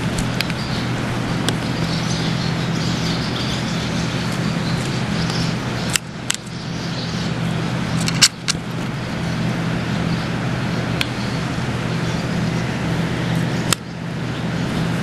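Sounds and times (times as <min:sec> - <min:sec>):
steady hiss and low hum: 0:00.0 - 0:15.0.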